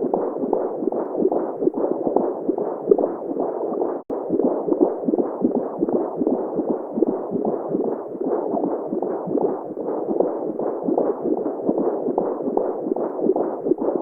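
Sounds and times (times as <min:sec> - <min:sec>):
heartbeat: 0:00.0 - 0:14.0.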